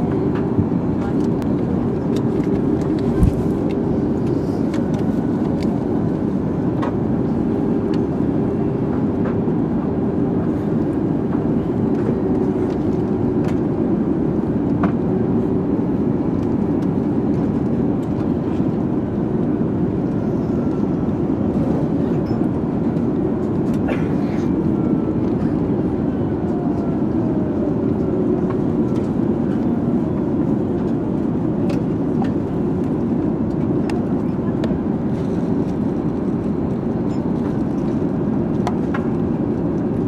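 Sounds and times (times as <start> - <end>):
engine and airflow rumble: 0.0 - 40.0.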